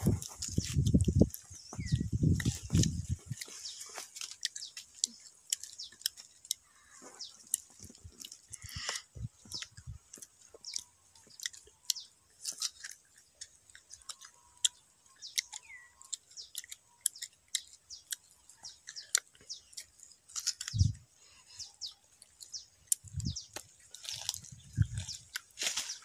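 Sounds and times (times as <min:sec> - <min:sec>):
biting and chewing crunches: 0:00.0 - 0:26.0.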